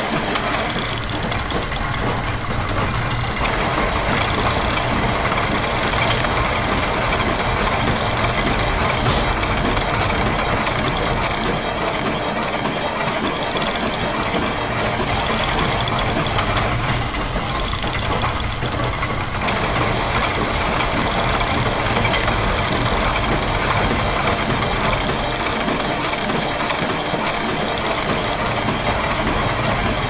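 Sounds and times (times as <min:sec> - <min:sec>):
gears and ratchets clicking: 0:00.0 - 0:30.0
low mechanical hum: 0:00.0 - 0:30.0.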